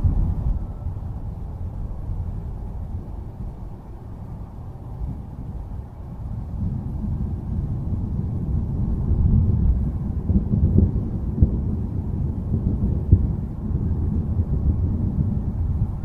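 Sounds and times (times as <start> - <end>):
rolling thunder rumble: 0.0 - 16.0
thunder crackles: 0.0 - 16.0.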